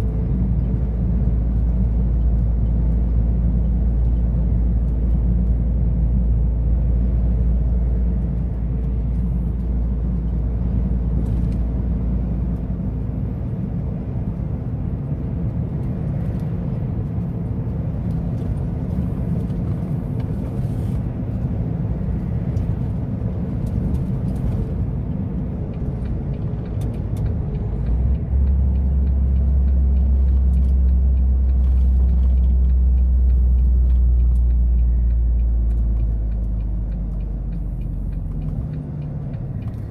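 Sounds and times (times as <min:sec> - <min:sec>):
truck diesel engine rumble: 0:00.0 - 0:39.9.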